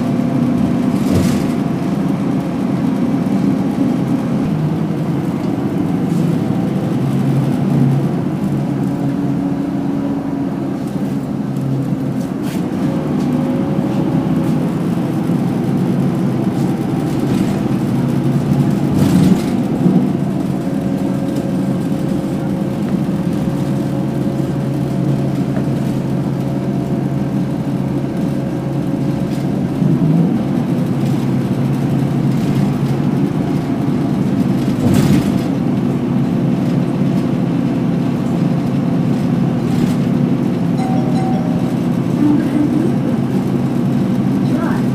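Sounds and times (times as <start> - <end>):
bus engine and road noise: 0.0 - 44.9.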